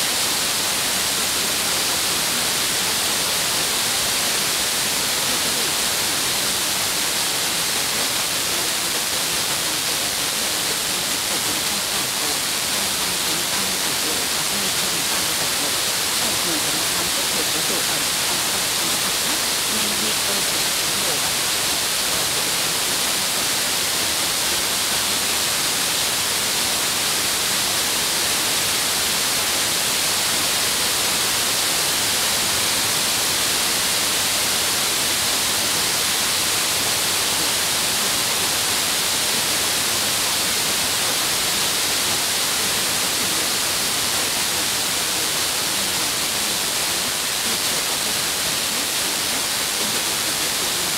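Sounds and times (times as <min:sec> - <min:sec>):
radio static hiss: 0:00.0 - 0:50.9.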